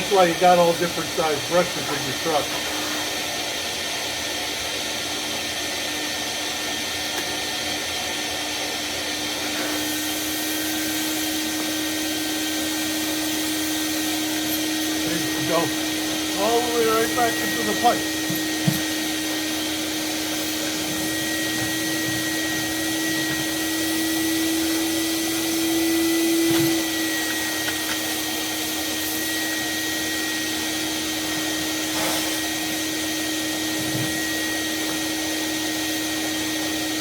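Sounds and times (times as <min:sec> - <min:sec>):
shop vacuum running: 0:00.0 - 0:37.0.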